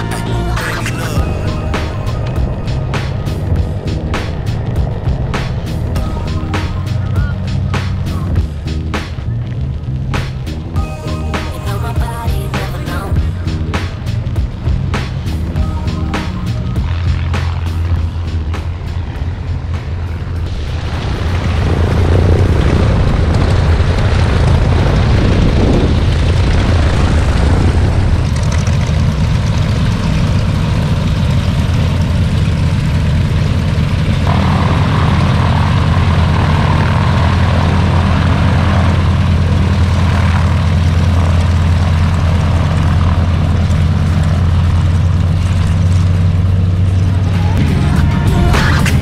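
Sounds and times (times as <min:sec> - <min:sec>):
propeller plane engines droning: 0:00.0 - 0:49.0.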